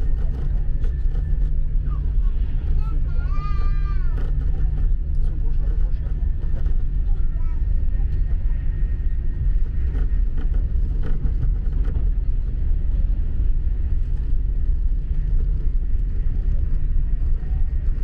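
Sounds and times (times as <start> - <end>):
low rumble inside train cabin: 0.0 - 18.0.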